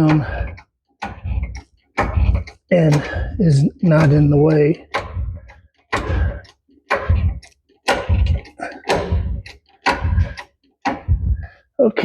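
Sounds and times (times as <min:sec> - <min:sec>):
hydraulic jack pumping thuds: 0:00.0 - 0:11.7.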